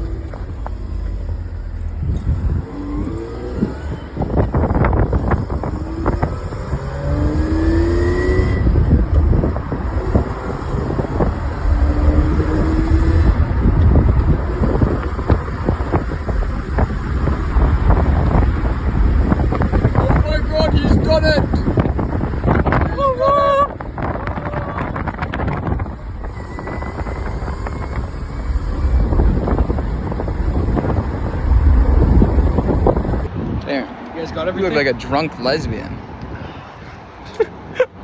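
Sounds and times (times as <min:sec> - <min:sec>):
car engine revving through gears: 0:00.0 - 0:23.0, 0:23.8 - 0:36.7
road noise: 0:00.0 - 0:38.0.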